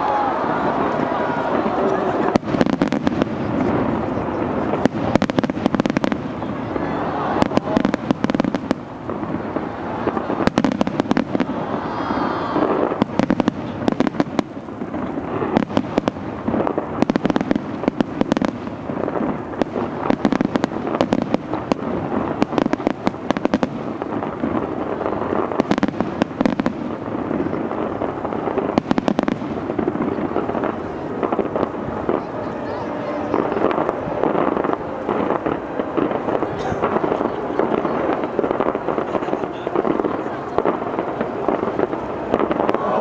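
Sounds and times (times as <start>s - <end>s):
fireworks bangs and pops: 0.0s - 43.0s.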